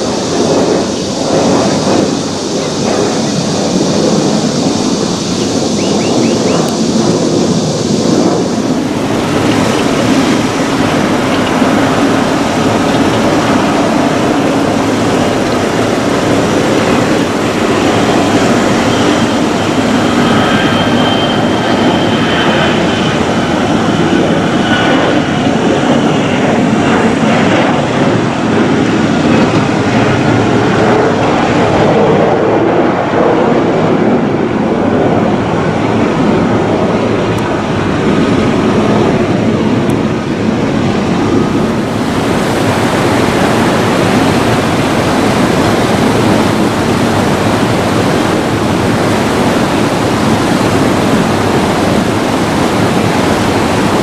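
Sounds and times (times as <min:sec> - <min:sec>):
jet airliner engines running: 0:00.0 - 0:54.0.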